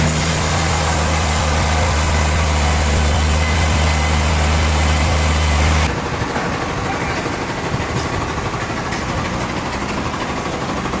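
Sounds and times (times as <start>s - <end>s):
heavy machinery droning: 0.0s - 11.0s.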